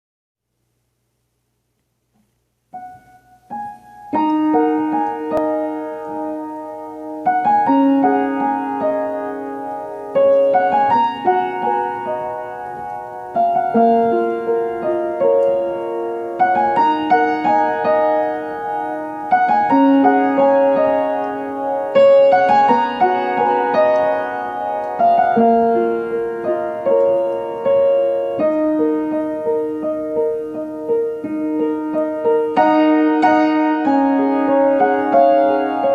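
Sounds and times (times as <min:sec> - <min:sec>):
piano melody over chords: 0:02.6 - 0:35.9.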